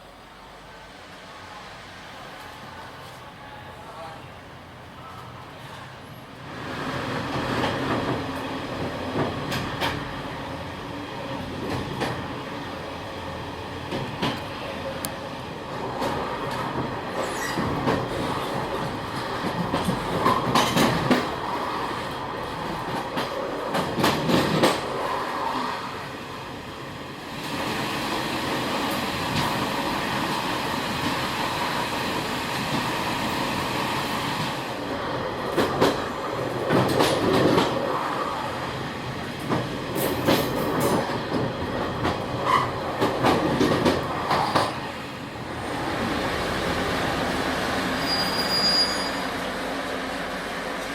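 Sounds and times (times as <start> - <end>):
train rumbling: 0.0 - 50.9.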